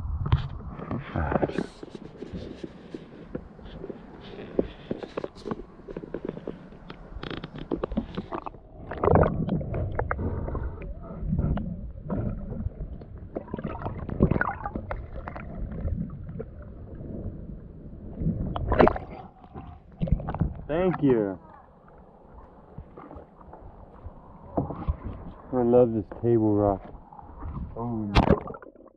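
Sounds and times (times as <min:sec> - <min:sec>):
water sloshing against hull: 0:00.0 - 0:28.9
water splashing: 0:00.5 - 0:28.9.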